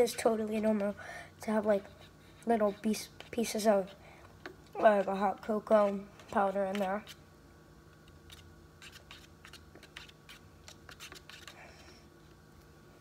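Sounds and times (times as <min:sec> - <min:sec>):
steady low hum: 0:00.0 - 0:13.0
stir stick scraping paper cup: 0:00.2 - 0:07.2, 0:08.1 - 0:11.9.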